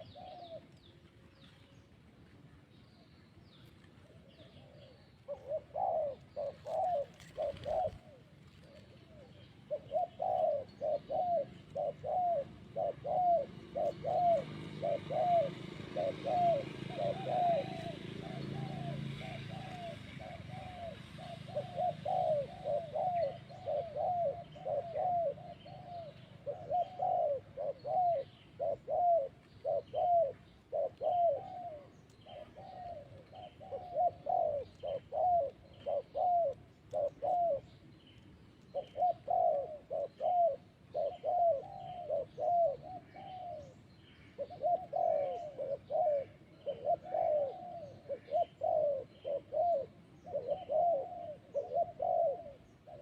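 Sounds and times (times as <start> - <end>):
dove cooing: 0.0 - 1.0, 4.0 - 53.0.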